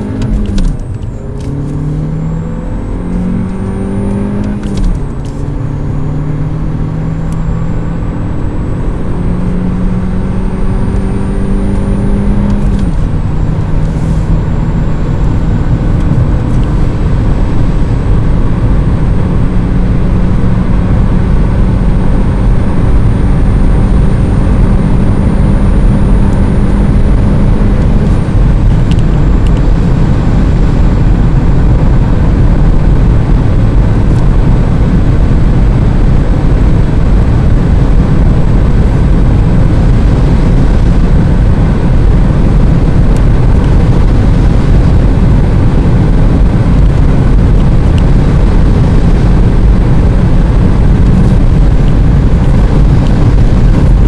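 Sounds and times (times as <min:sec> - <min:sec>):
car engine accelerating: 0:00.0 - 0:54.0
wind and road noise: 0:00.0 - 0:54.0.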